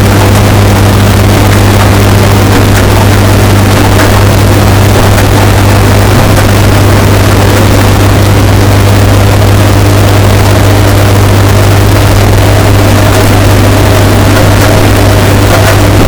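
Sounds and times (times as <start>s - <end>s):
distorted washing machine hum: 0.0s - 16.0s.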